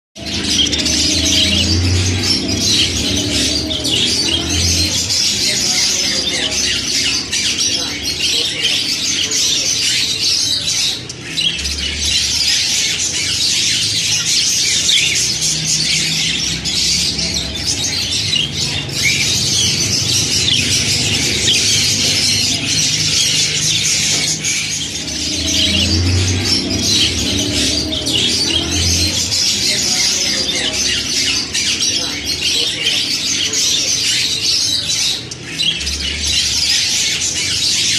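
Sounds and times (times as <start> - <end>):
budgerigars chattering and squawking: 0.2 - 37.9.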